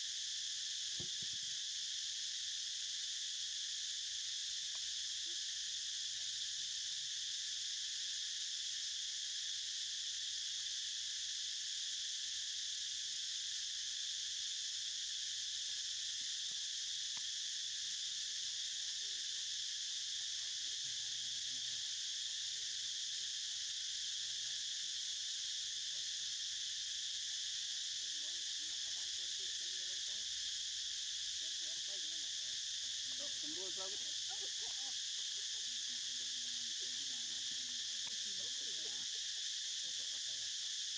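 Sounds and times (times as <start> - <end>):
insect chorus buzzing: 0.0 - 40.9.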